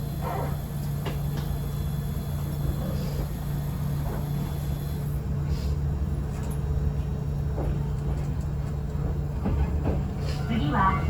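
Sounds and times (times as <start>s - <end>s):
train motor hum: 0.0s - 11.0s
wheel and track rumble: 0.0s - 11.0s.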